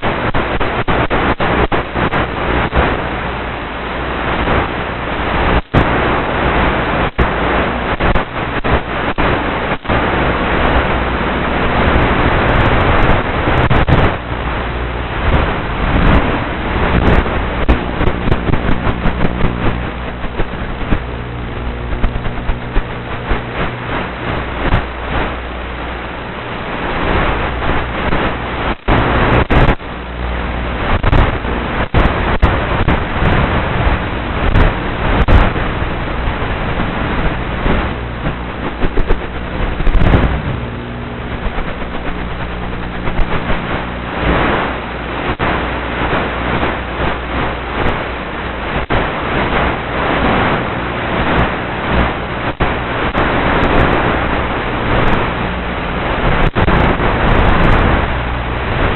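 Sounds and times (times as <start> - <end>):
wind over microphone: 0.0 - 58.9.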